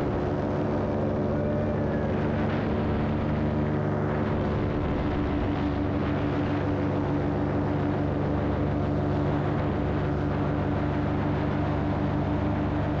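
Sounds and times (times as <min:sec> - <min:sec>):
paramotor engine running: 0:00.0 - 0:13.0
wind rushing over microphone: 0:00.0 - 0:13.0.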